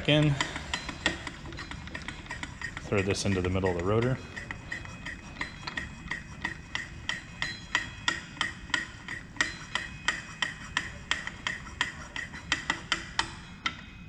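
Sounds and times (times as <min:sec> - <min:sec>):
brake lathe humming: 0:00.0 - 0:13.8
ringing metallic clicks: 0:00.0 - 0:14.0.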